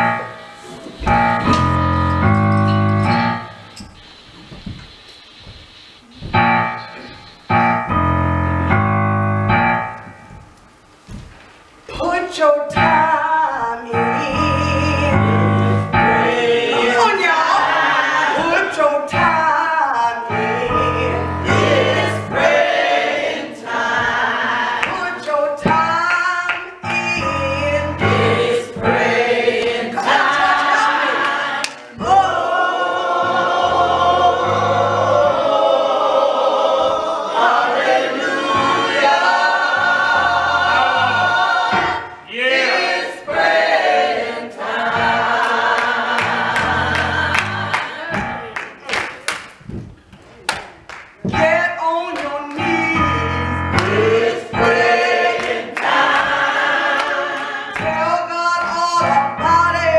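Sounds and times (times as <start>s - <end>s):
gospel choir singing: 0.0s - 4.1s, 6.0s - 10.0s, 11.9s - 48.6s, 51.3s - 59.9s
keyboard accompaniment: 0.0s - 5.0s, 5.8s - 10.6s, 13.9s - 25.0s, 25.6s - 48.7s, 52.6s - 59.9s.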